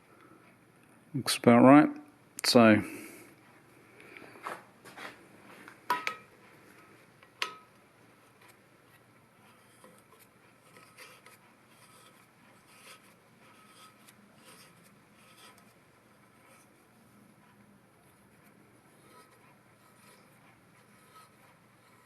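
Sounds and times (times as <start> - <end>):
faint ticks and light scraping: 3.2 - 22.0.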